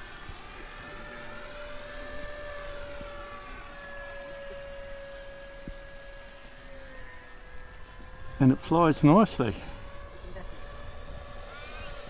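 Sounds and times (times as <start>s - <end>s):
electric ducted fan whining: 0.0s - 12.0s.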